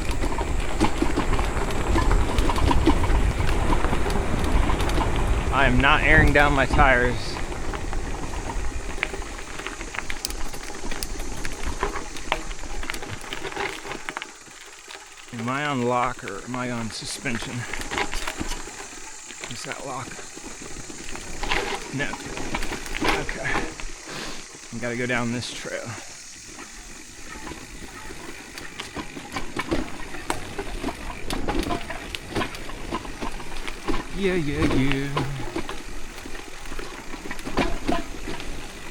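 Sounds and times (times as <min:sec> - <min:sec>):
bike mechanical clicks and rattles: 0:00.0 - 0:38.9.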